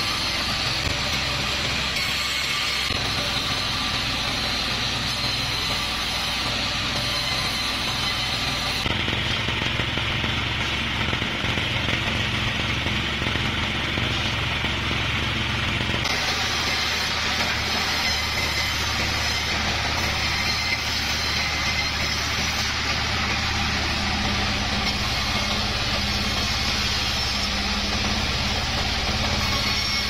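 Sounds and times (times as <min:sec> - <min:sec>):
engine-like drone: 0:00.0 - 0:30.0
sawmill machinery drone: 0:00.0 - 0:30.0.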